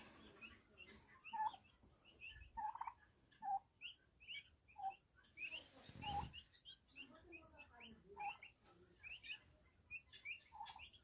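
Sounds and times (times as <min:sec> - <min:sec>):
turkeys calling: 0:00.0 - 0:11.0.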